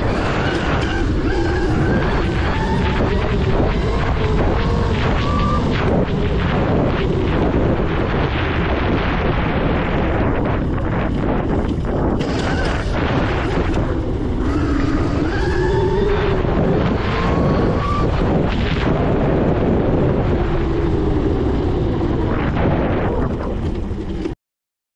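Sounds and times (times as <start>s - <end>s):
wind rumble on microphone: 0.0s - 24.4s.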